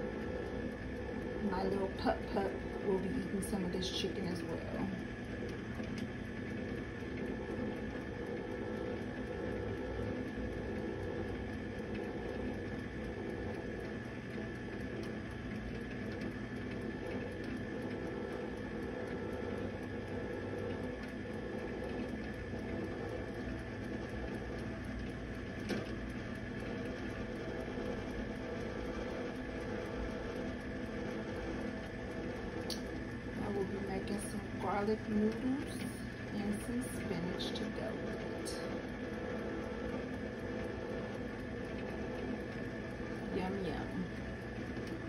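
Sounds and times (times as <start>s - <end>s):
rotisserie motor hum: 0.0s - 45.0s.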